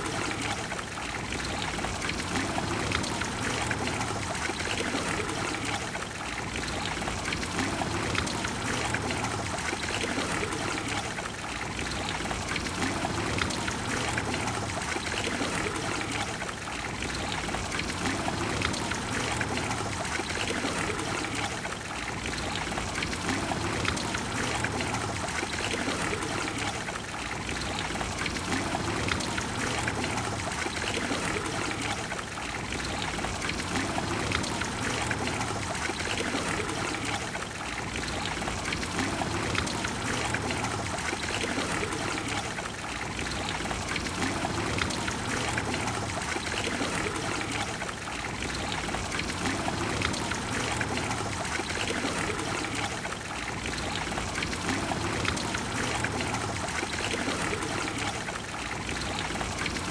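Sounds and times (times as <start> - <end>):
fountain water splashing: 0.0 - 59.9.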